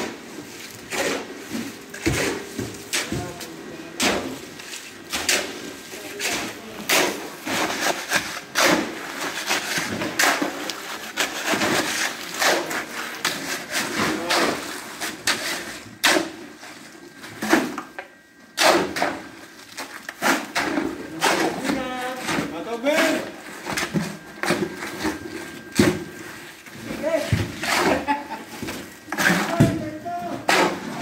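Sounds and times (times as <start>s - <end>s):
shovel scraping wet concrete: 0.0s - 17.8s, 18.6s - 31.0s.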